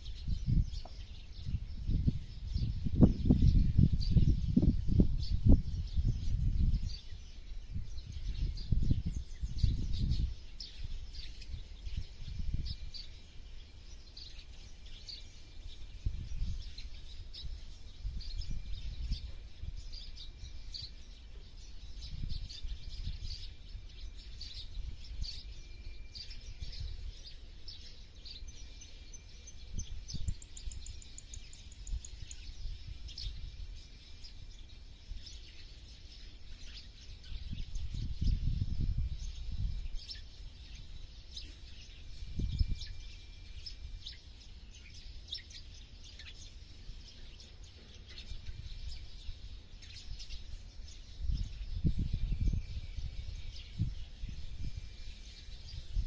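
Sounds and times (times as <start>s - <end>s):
bird trill: 0.0s - 56.0s
small birds chirping: 0.0s - 56.0s.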